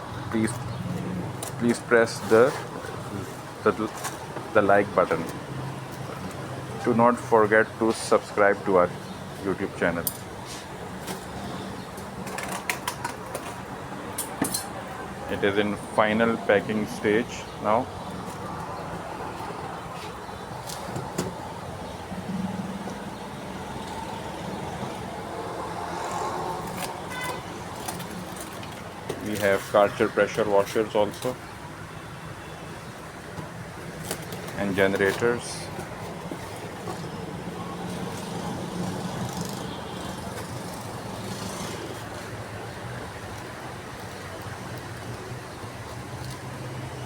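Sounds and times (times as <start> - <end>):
road traffic hum: 0.0 - 47.0.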